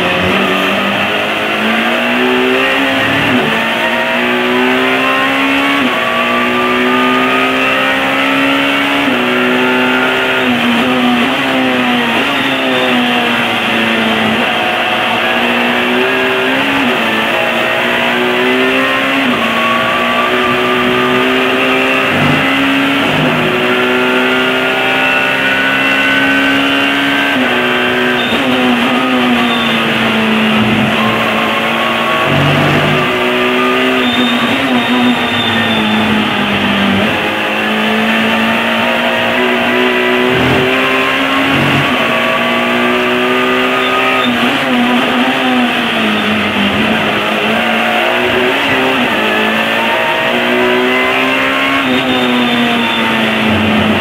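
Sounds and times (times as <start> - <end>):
race car engine: 0.0 - 54.0
road and wind noise: 0.0 - 54.0.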